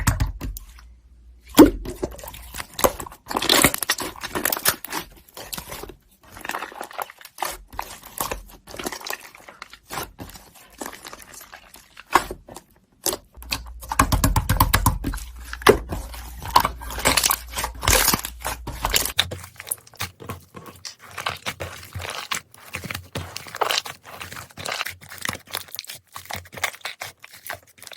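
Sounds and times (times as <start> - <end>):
slime squished by hand: 1.4 - 27.9.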